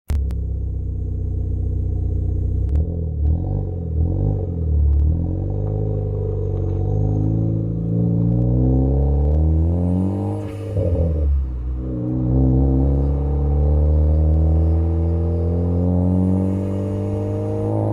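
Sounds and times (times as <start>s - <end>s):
car engine revving: 0.1s - 17.9s.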